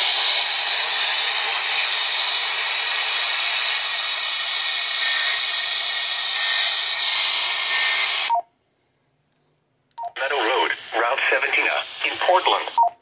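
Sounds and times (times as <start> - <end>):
radio static hiss: 0.0 - 8.3, 10.1 - 12.9.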